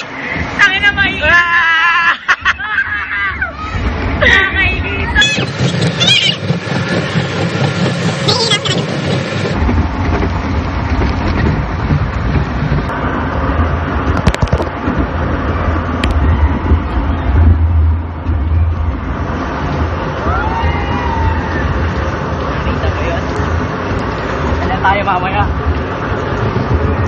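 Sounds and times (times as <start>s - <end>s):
log flume ride rumbling: 0.0s - 27.0s.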